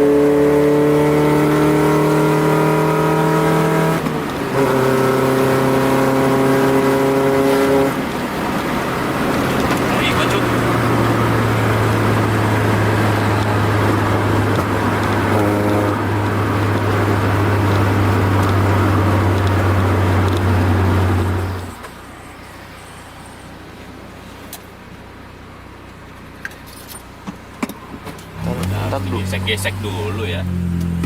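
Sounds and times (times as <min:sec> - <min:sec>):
car engine drone in cabin: 0:00.0 - 0:31.0
road and wind noise: 0:00.0 - 0:31.0.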